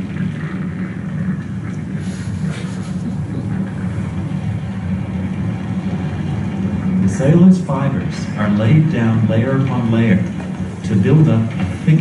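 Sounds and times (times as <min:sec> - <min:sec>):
steady low drone: 0:00.0 - 0:12.0.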